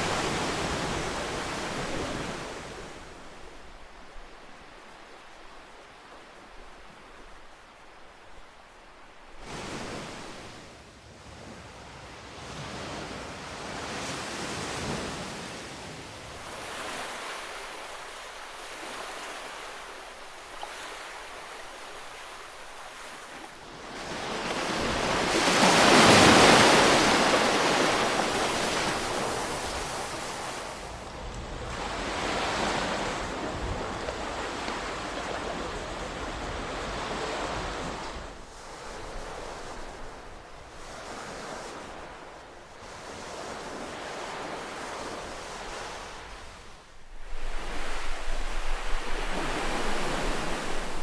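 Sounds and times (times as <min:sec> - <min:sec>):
ocean waves breaking on shore: 0:00.0 - 0:51.0.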